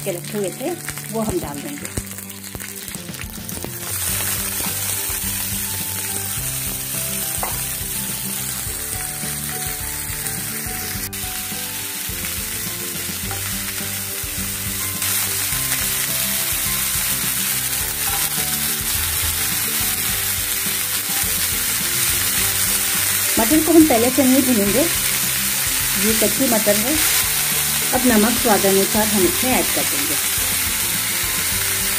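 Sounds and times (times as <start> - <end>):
leaves sizzling in hot oil: 0.0 - 31.9
quiet background music: 0.0 - 31.9.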